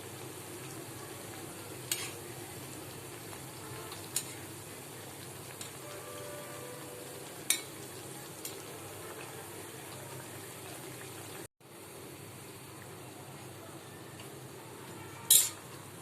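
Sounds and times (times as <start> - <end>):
potatoes sizzling in oil: 0.0 - 16.0.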